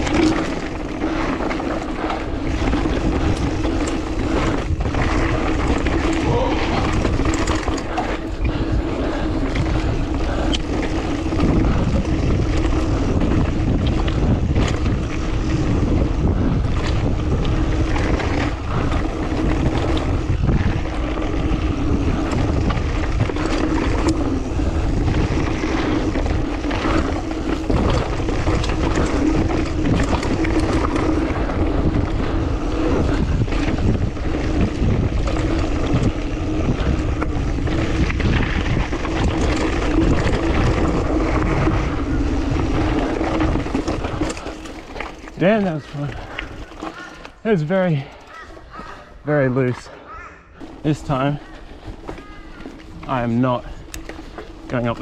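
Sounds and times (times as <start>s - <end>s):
bike knocking and rattling: 0.0s - 55.0s
bike tyres rumbling over rock: 0.0s - 55.0s
wind buffeting microphone: 0.0s - 55.0s.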